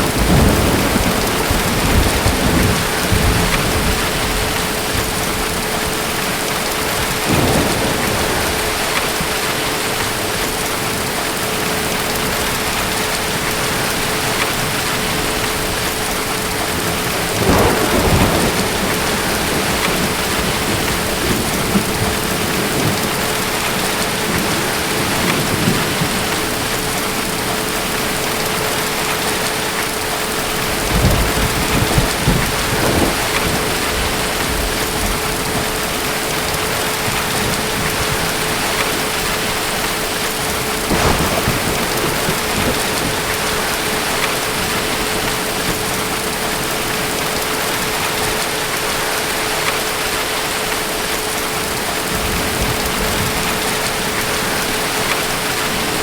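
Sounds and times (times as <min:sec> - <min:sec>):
thunder rumbling: 0:00.0 - 0:50.0, 0:51.0 - 0:56.0
heavy rain: 0:00.0 - 0:56.0.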